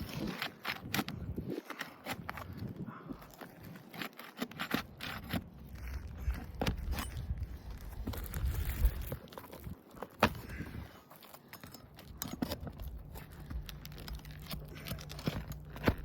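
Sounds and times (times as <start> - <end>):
pry tool scraping roof shingles: 0.0 - 16.0.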